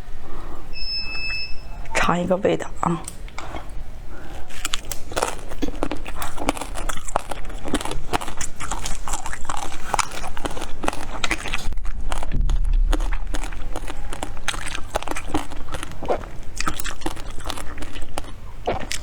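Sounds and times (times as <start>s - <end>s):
chewing jelly wet squishy: 3.1s - 19.0s.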